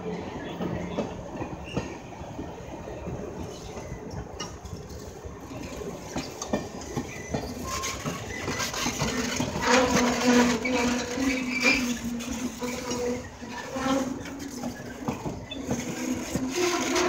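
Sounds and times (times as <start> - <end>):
train wheel squeal: 0.0 - 2.0, 3.4 - 17.0
wheels clicking over rail joints: 0.4 - 17.0.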